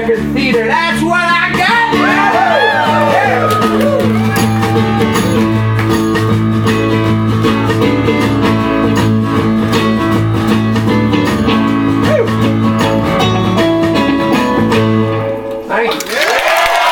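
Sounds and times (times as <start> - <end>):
steady drum beat: 0.0 - 15.0
live band playing pop-rock: 0.0 - 15.7
strummed guitars: 0.0 - 15.8.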